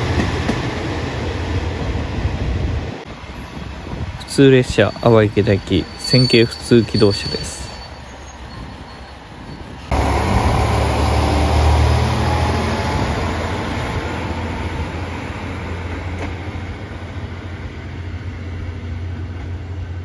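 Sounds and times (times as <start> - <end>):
diesel railcar engine: 0.0 - 20.0
rail noise: 0.0 - 20.0.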